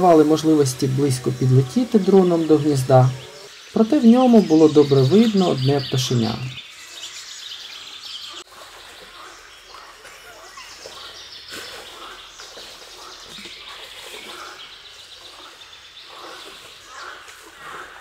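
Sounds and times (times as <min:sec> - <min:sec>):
outdoor background hiss: 0:00.0 - 0:17.6
birds chirping and calling: 0:00.0 - 0:18.0.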